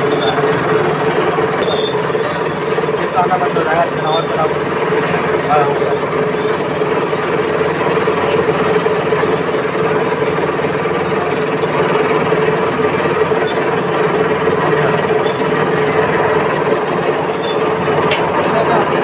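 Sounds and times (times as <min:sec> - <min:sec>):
lathe running: 0:00.0 - 0:19.0.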